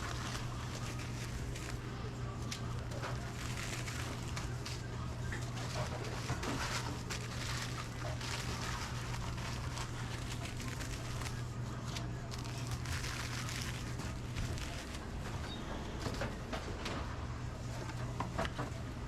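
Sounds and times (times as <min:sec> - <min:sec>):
crackle and clatter: 0:00.0 - 0:17.2
low hum of kitchen machinery: 0:00.0 - 0:19.0.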